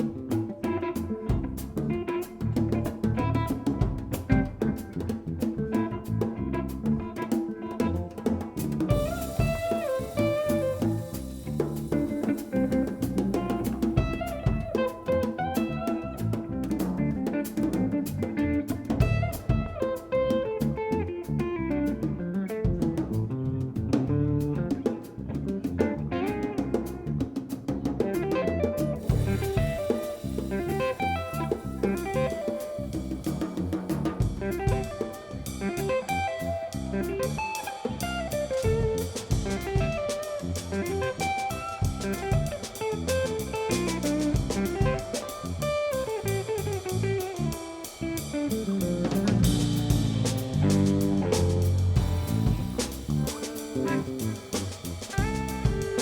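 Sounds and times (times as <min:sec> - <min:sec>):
bass guitar: 0:00.0 - 0:56.0
drum kit: 0:00.0 - 0:56.0
guitar melodic lines: 0:00.0 - 0:56.0.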